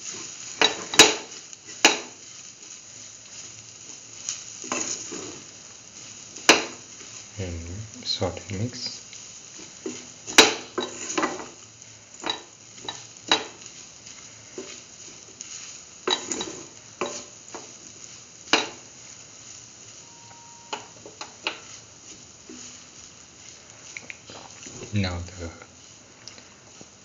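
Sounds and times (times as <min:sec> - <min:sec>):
low frying sizzle: 0:00.0 - 0:27.0.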